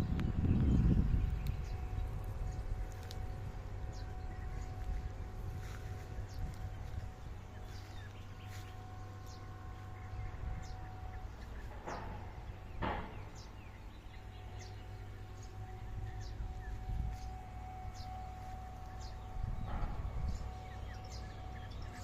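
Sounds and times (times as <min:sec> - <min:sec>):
birds chirping: 0:00.0 - 0:22.0
steady low rumble: 0:00.0 - 0:22.0.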